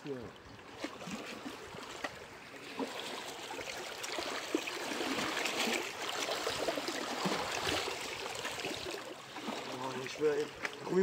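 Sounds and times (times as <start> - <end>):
water lapping among rocks: 0.0 - 11.0.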